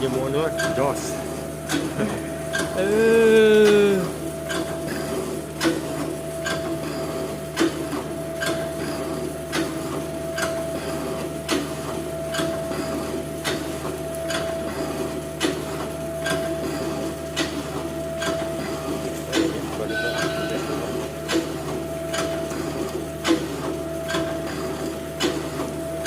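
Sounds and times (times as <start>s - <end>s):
motor hum: 0.0s - 26.0s.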